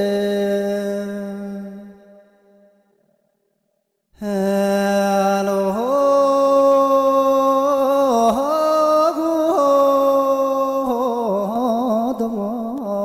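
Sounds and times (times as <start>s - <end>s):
person chanting: 0.0s - 2.4s, 4.2s - 13.0s.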